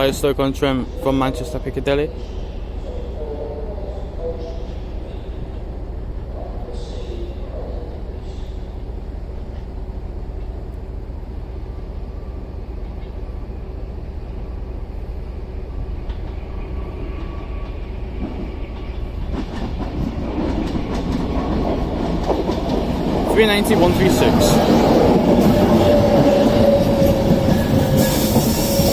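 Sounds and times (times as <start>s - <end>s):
electric train low rumble: 0.0s - 28.9s.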